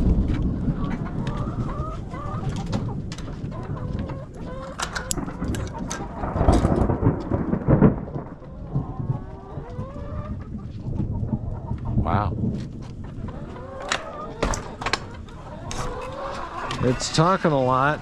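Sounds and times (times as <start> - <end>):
chickens clucking: 0.0 - 6.9, 8.1 - 18.0
low rumble: 0.0 - 18.0.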